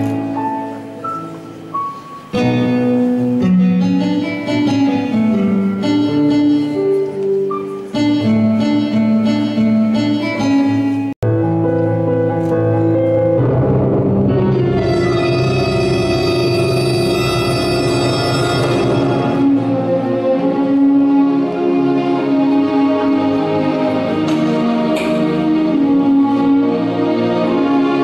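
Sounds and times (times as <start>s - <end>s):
electronic keyboard melody: 0.0s - 28.0s.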